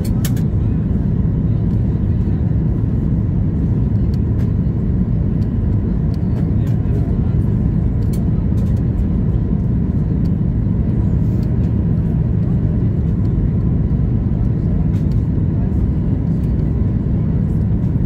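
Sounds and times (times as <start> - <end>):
airflow over fuselage: 0.0 - 18.0
airliner cabin rumble: 0.0 - 18.0.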